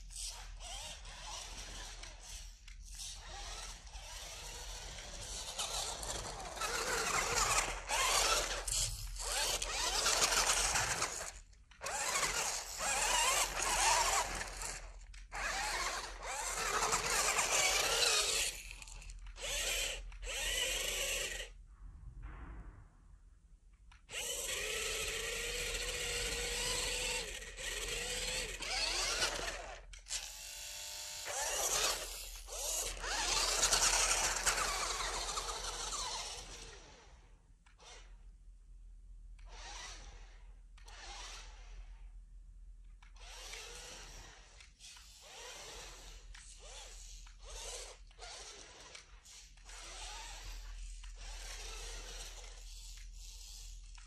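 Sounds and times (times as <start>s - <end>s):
toy car motor whining: 0.0s - 21.6s, 24.0s - 38.2s, 39.4s - 42.1s, 43.0s - 54.0s.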